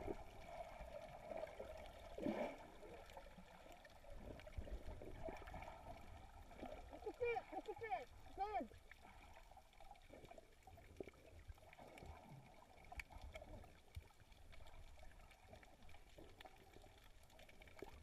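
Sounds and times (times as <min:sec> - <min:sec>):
faint underwater clicks and crackles: 0:00.0 - 0:18.0
low rumble of moving water: 0:00.0 - 0:18.0.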